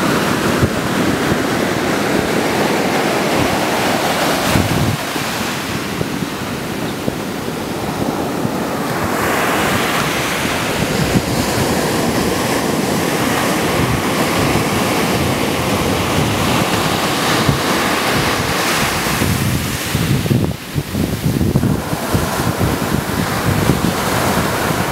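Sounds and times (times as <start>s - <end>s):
ocean surf breaking: 0.0s - 24.9s
wind buffeting the microphone: 0.0s - 24.9s.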